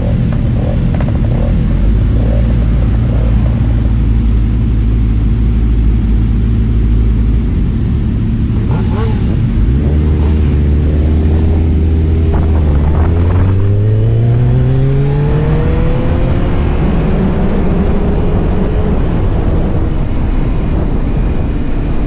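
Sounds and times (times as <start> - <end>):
motorcycle engine droning: 0.0 - 22.0.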